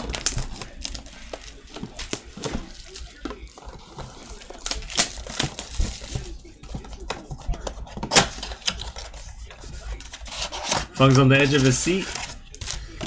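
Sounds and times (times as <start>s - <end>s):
plastic wrap crinkling and tearing: 0.0s - 13.0s.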